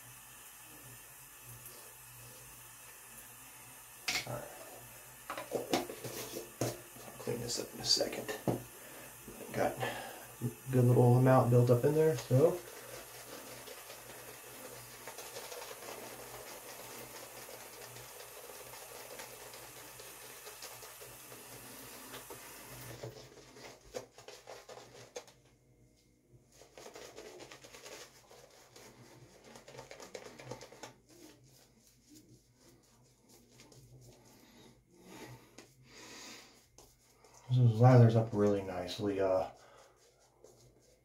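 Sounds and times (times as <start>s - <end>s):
shaving brush scrubbing lather: 0.0s - 25.4s, 26.5s - 41.0s.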